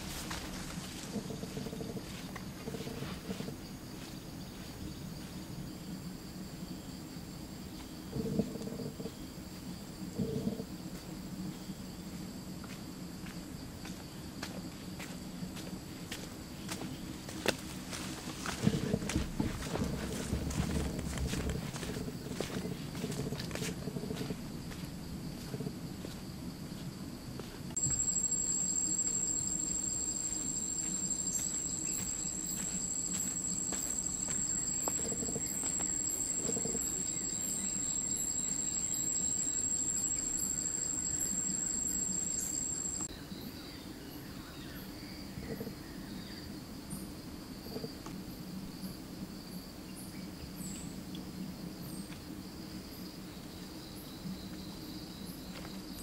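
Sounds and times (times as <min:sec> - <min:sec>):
faint insect hum: 0:00.0 - 0:56.0
high-pitched insect trill: 0:00.0 - 0:56.0.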